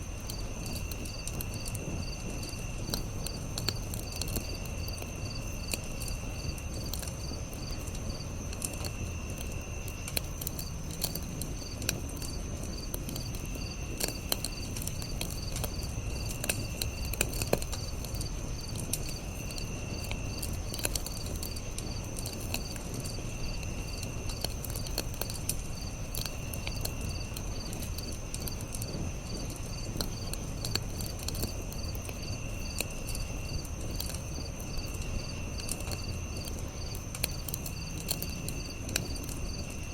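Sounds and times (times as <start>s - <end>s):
campfire crackling and popping: 0.0s - 39.9s
crickets chirping: 0.0s - 39.9s
low rumble of flame: 0.0s - 39.9s.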